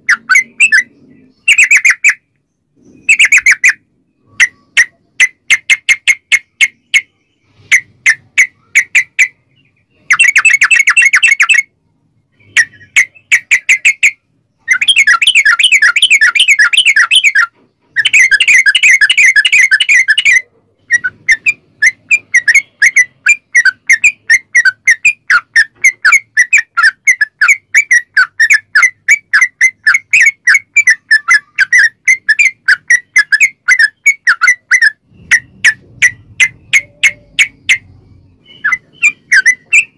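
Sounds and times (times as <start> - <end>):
bulbul song: 0.0 - 39.9.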